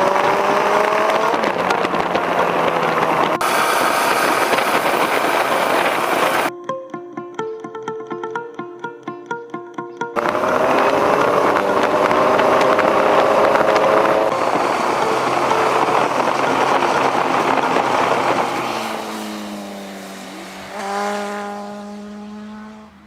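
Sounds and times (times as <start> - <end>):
motorcycle engine running: 0.0 - 6.5, 10.2 - 22.9
wind rush: 0.0 - 6.5, 10.2 - 22.4.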